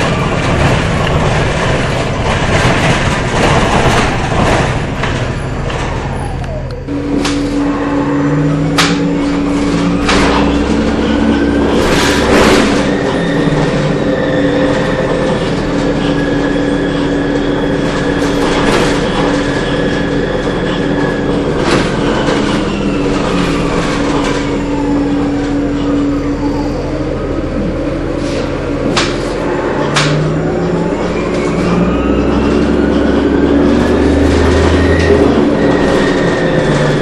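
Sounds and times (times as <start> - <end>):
bus drive drone: 0.0 - 37.0.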